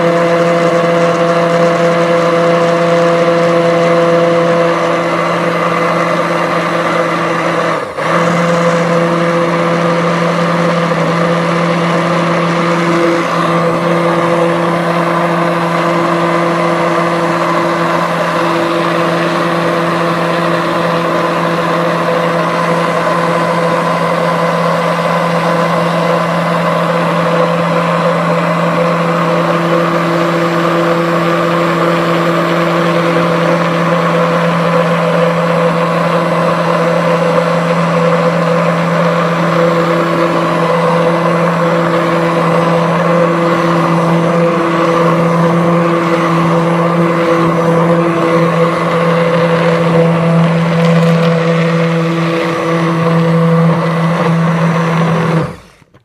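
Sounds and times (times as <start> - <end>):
stick blender motor whine: 0.0 - 56.0.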